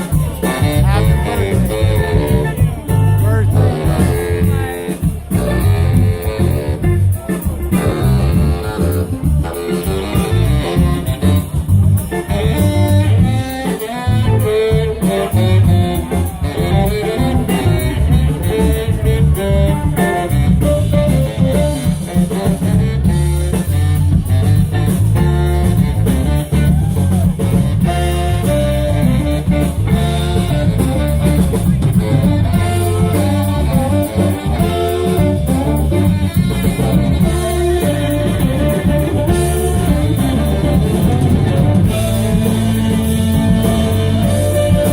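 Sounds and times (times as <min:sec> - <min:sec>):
bass: 0:00.0 - 0:44.9
drum kit: 0:00.0 - 0:44.9
guitar: 0:00.0 - 0:44.9
lead instrument: 0:00.0 - 0:44.9.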